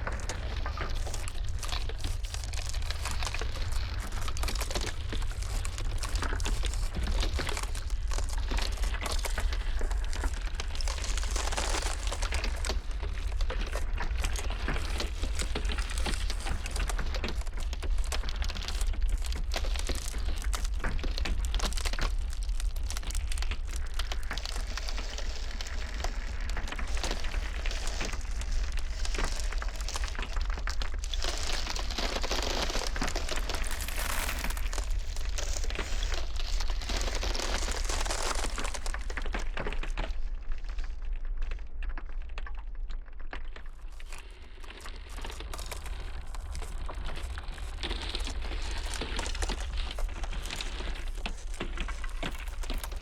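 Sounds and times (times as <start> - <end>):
ice crackling and snapping: 0.0 - 53.0.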